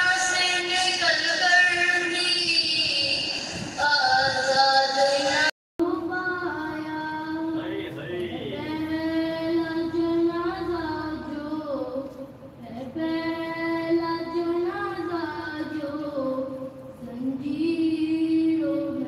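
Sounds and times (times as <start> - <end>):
boy chanting: 0.0 - 19.0.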